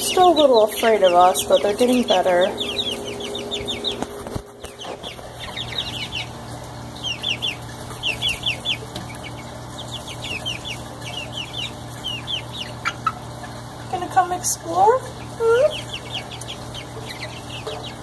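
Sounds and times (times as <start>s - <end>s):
chicks peeping: 0.0s - 18.0s
steady low hum: 0.0s - 18.0s.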